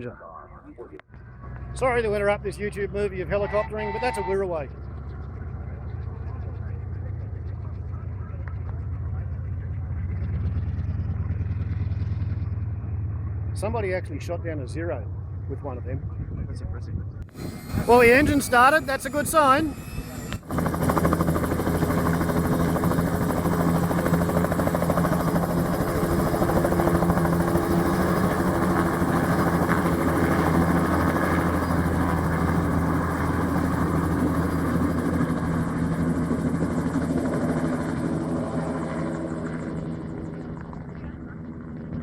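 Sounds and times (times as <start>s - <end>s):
helicopter turbine and rotor hum: 1.5s - 42.0s.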